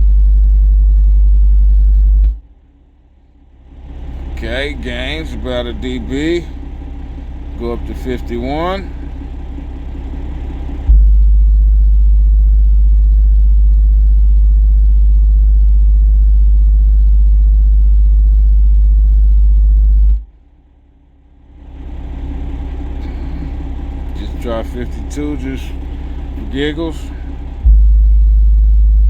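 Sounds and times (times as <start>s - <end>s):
subwoofer low test tone: 0.0s - 29.0s.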